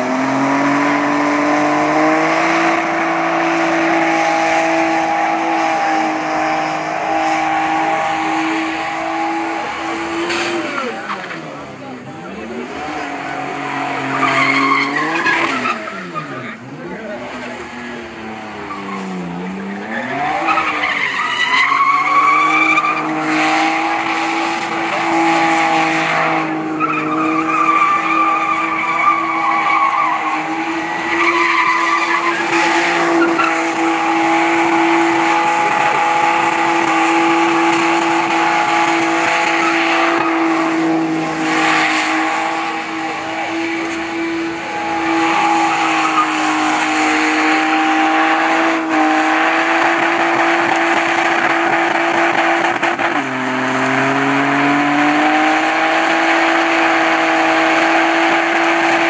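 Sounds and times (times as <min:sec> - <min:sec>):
car engine at high revs: 0:00.0 - 0:59.0
tyres skidding and squealing: 0:00.0 - 0:59.0.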